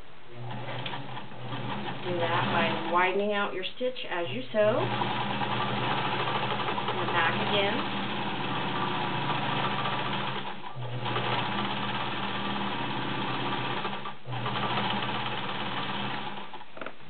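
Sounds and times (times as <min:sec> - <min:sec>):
sewing machine running: 0:00.4 - 0:03.2, 0:04.5 - 0:16.6.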